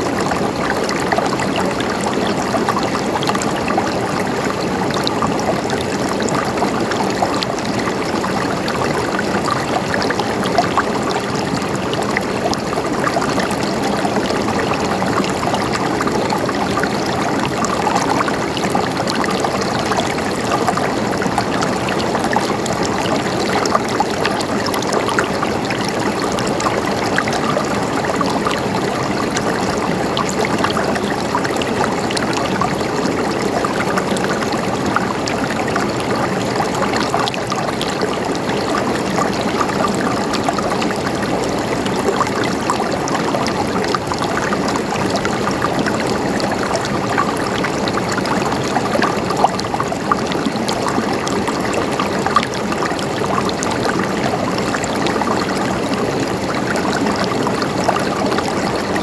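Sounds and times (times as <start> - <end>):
stream water babbling over stones: 0.0 - 59.0.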